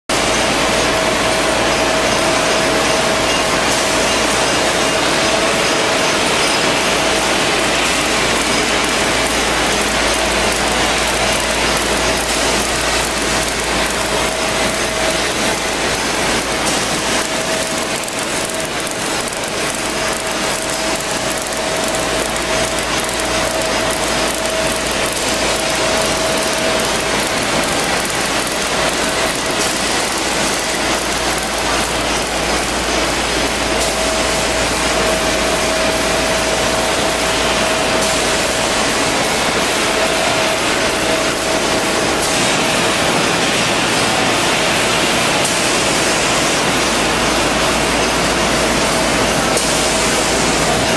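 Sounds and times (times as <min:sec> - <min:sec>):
packaging machinery running: 0:00.1 - 0:50.9
thin steady whine: 0:00.1 - 0:50.9.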